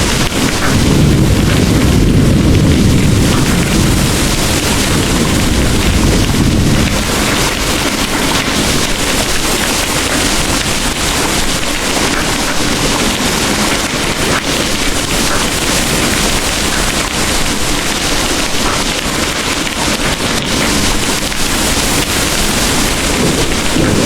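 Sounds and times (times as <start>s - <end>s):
heavy rain pouring: 0.0s - 24.0s
low thunder rumble: 0.0s - 24.0s.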